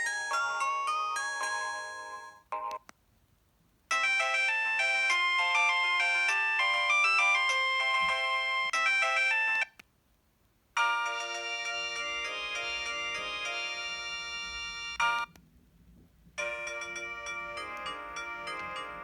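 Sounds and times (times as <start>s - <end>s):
phone ringtone melody: 0.0s - 2.8s, 3.9s - 9.7s, 10.8s - 15.3s, 16.4s - 19.0s.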